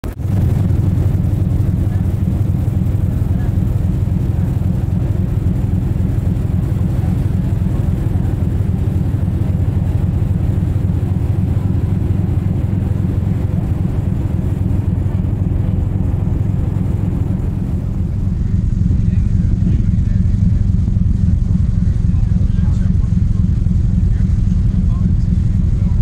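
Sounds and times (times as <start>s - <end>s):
ferry engines rumbling: 0.0s - 26.0s.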